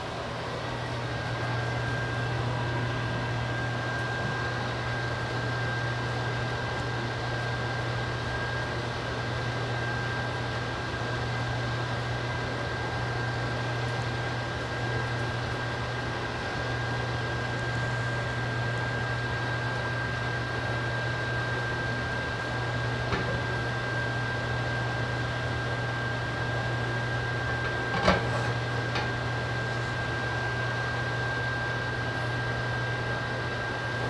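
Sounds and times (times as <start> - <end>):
kitchen hum and hiss: 0.0 - 34.0.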